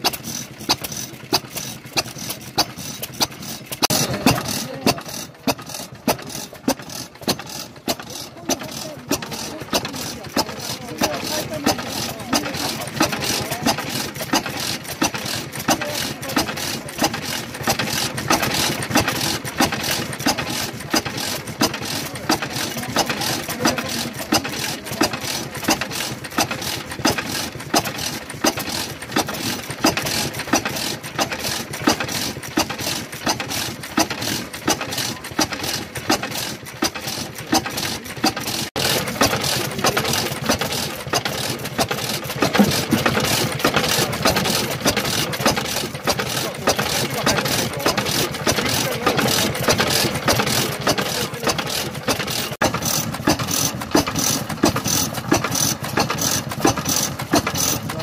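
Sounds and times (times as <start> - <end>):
stationary engine knocking: 0.0 - 58.0.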